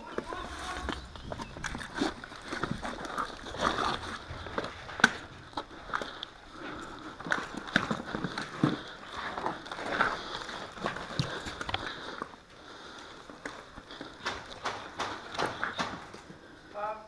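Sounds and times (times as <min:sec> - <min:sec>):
footsteps: 0:00.0 - 0:16.7.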